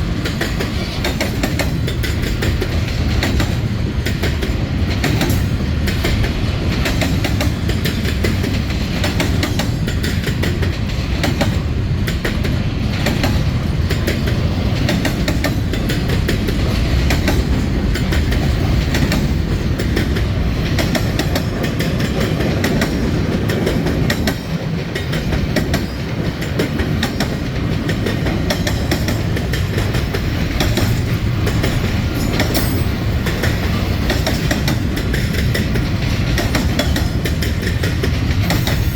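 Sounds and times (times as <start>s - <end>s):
train rumbling past: 0.0s - 38.9s
wheels clicking over rail joints: 0.0s - 38.9s.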